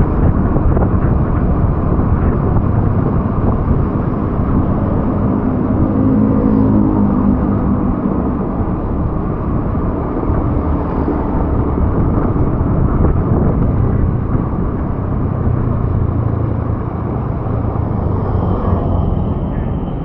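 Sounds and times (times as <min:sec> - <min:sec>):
low engine hum: 0:00.0 - 0:20.0
tyres rumbling on road: 0:00.0 - 0:20.0.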